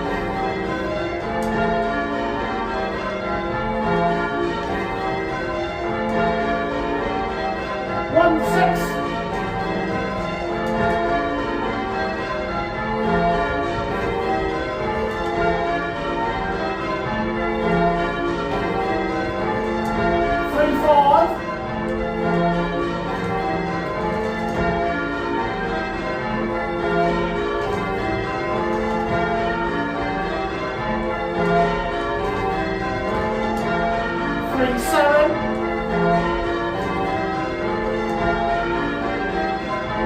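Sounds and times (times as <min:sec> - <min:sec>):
church bells ringing: 0:00.0 - 0:40.0
sliding call over bells: 0:00.0 - 0:40.0.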